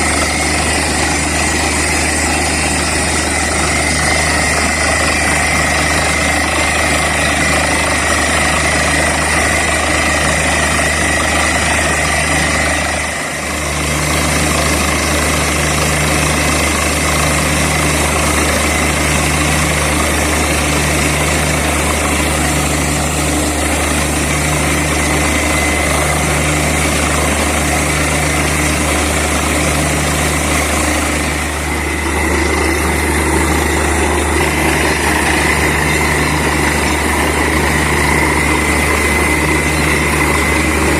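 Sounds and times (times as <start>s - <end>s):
drilling rig engine drone: 0.0s - 40.9s.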